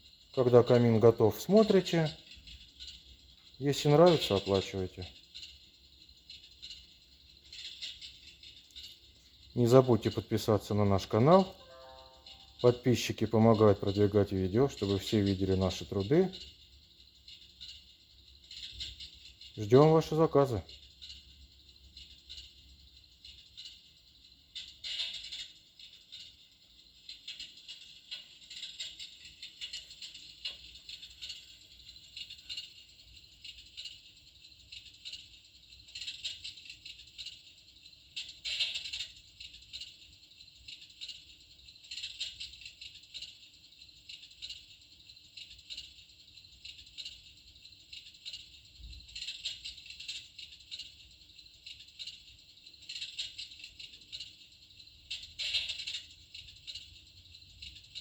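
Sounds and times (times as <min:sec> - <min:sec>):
simulated fire crackle: 0:00.0 - 0:58.0.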